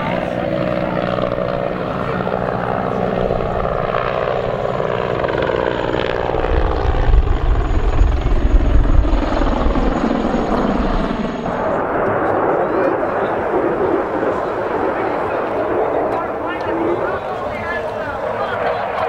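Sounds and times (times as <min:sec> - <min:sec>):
helicopter turbine and rotor: 0:00.0 - 0:19.0.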